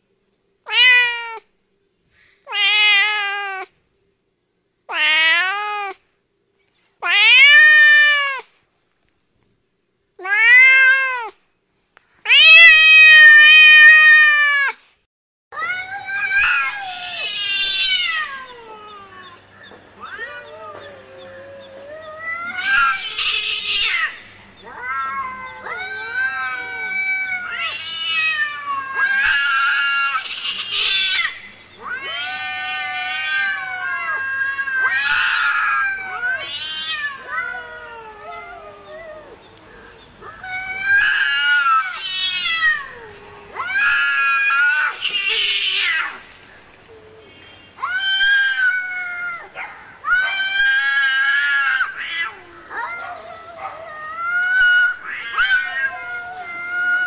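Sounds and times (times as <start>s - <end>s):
cats meowing and yowling: 0.7s - 1.5s, 2.5s - 3.7s, 4.9s - 6.0s, 7.0s - 8.5s, 10.2s - 11.4s, 12.3s - 14.8s, 15.6s - 39.4s, 40.2s - 46.3s, 47.8s - 57.0s.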